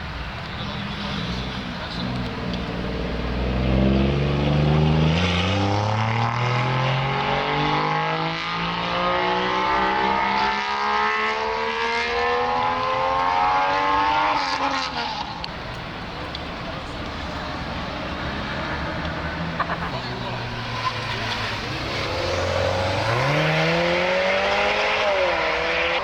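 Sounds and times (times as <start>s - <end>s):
car engine accelerating: 0.6s - 26.0s.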